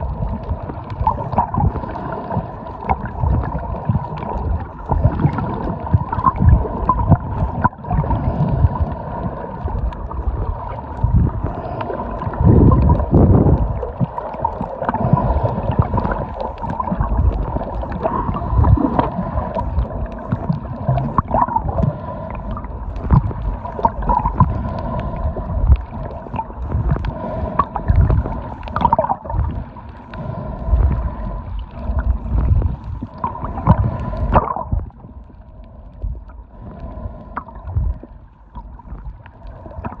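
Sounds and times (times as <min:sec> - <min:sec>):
muffled underwater churning: 0:00.0 - 0:40.0.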